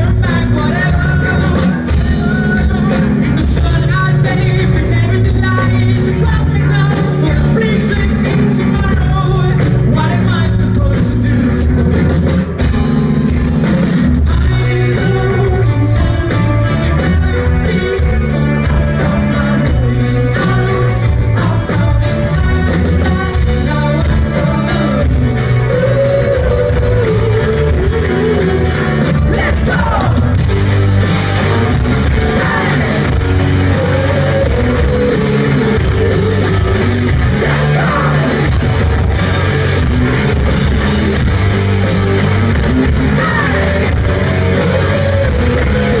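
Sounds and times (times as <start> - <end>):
person singing lead vocal: 0.0 - 12.6, 14.2 - 46.0
bass guitar: 0.0 - 46.0
distorted electric guitars: 0.0 - 46.0
drums: 0.0 - 46.0.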